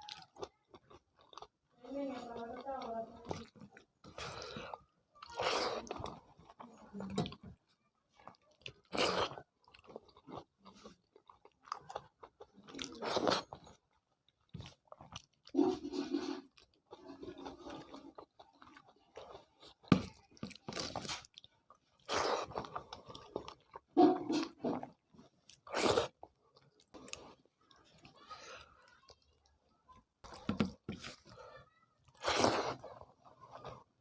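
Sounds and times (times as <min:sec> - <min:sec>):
wet chewing and smacking: 0:00.0 - 0:34.0.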